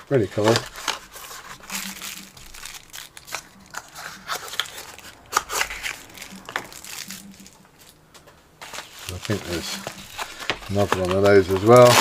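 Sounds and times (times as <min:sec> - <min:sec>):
packaging crinkling and crunching: 0:00.0 - 0:12.0.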